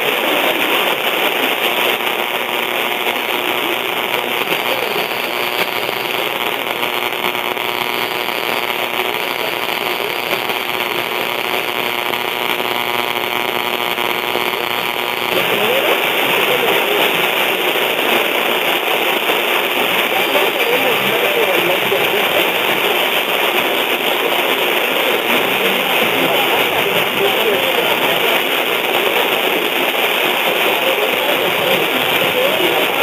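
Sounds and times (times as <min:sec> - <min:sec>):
radio static and hiss: 0:00.0 - 0:33.0
weak radio signal: 0:00.0 - 0:33.0.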